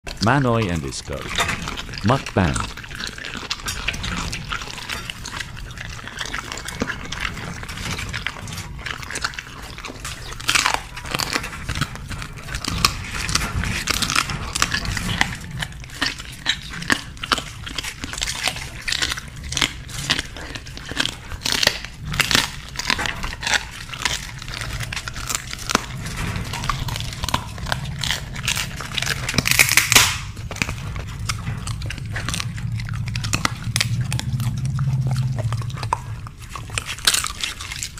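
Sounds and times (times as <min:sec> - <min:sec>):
dogs crunching vegetables: 0:00.0 - 0:37.9.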